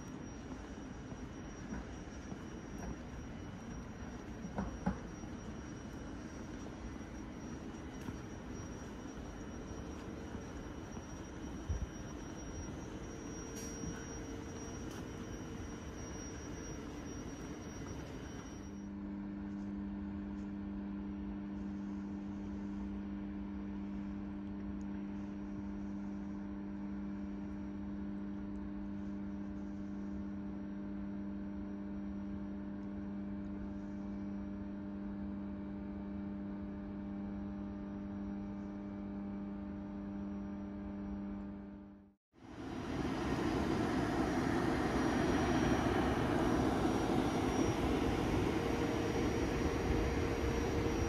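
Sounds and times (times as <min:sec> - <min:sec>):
locomotive electrical hum: 0:00.0 - 0:51.0.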